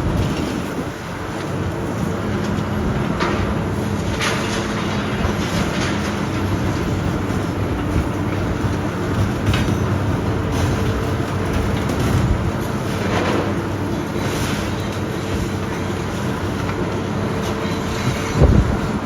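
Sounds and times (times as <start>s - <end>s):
heavy demolition machinery running: 0.0s - 19.0s.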